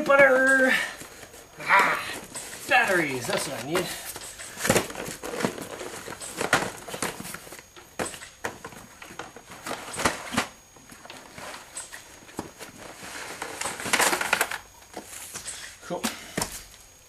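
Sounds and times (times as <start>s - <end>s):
things being handled and moved: 0.0s - 16.9s.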